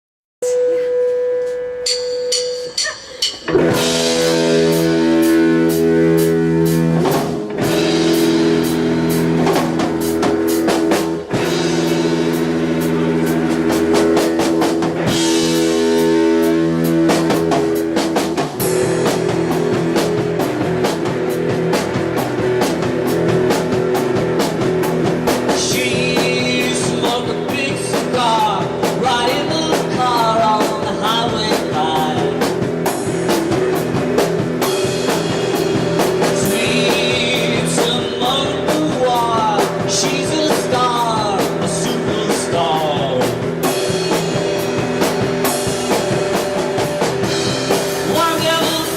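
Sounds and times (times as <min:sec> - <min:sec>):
drum kit: 0:00.4 - 0:48.9
rock guitar: 0:00.4 - 0:48.9
bending lead guitar line: 0:03.5 - 0:48.9.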